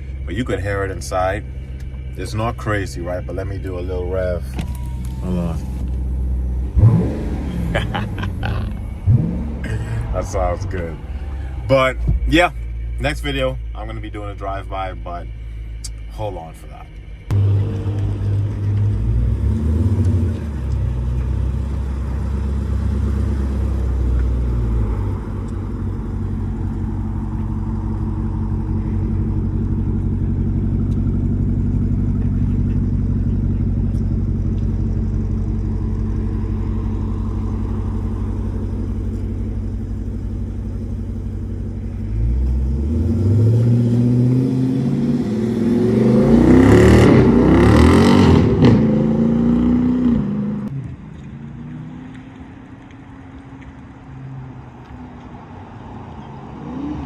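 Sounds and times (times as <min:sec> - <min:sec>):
car engine revving: 0:00.0 - 0:52.5.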